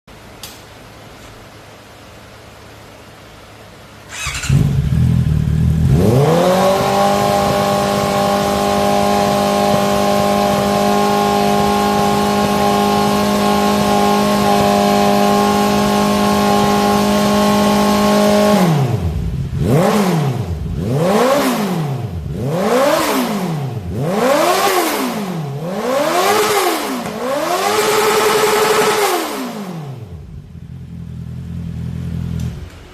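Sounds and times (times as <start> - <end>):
motorcycle engine revving: 4.0 - 32.9.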